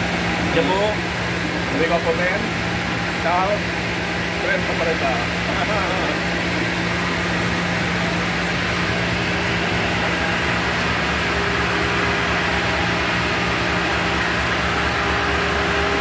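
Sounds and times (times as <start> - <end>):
low machinery drone: 0.0 - 16.0.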